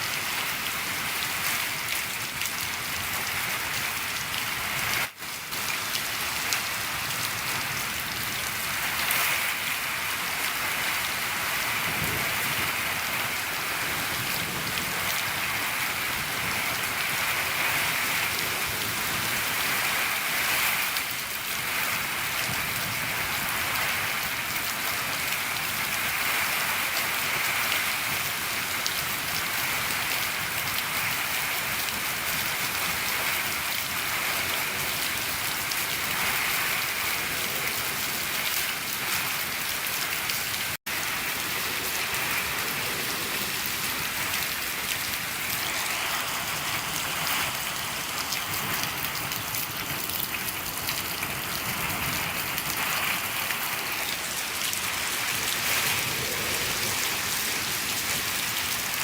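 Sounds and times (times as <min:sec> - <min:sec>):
rain falling on a shed roof: 0:00.0 - 0:59.0.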